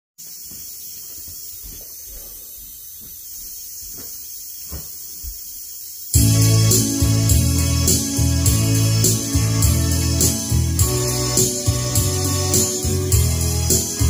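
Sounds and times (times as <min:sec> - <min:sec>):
high-pitched recording hiss: 0:00.2 - 0:14.0.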